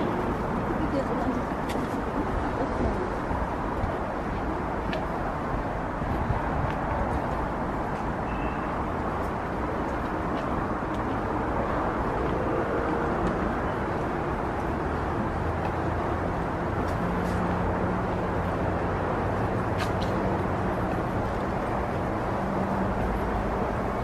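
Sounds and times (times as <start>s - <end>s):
distant city traffic rumble: 0.0s - 24.0s.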